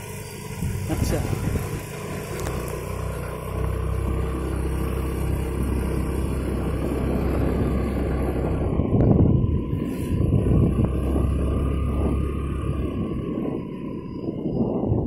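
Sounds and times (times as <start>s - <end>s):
motorcycle engine running: 0.0s - 15.0s
wind rumbling on microphone: 0.0s - 15.0s.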